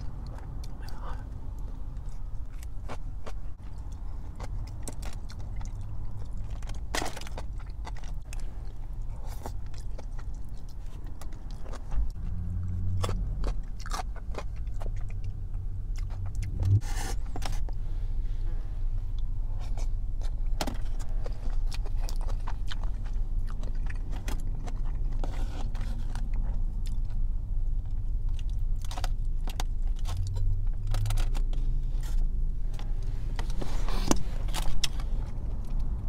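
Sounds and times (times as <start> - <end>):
chewing crispy fried chicken: 0.1 - 16.6, 19.6 - 32.2.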